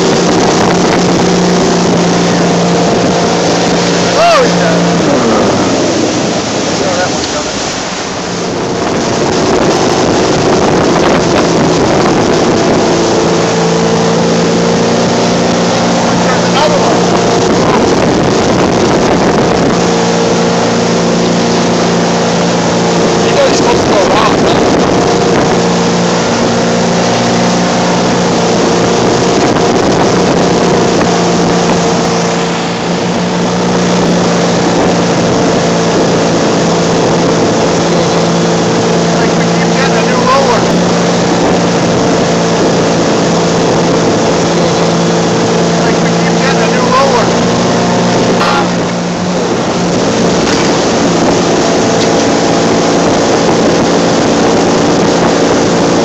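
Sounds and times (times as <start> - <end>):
boat engine humming: 0.0 - 56.0
rushing water and wind: 0.0 - 56.0.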